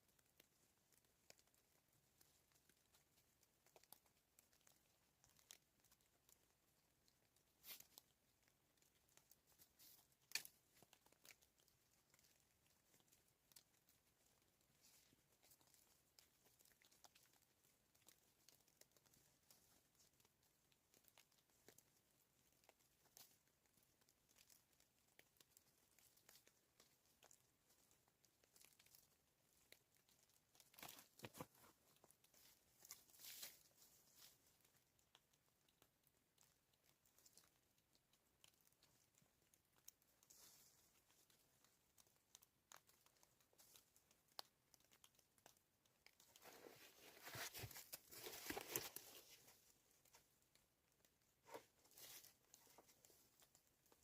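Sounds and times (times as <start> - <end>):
rustling and crinkling: 0.0 - 54.0.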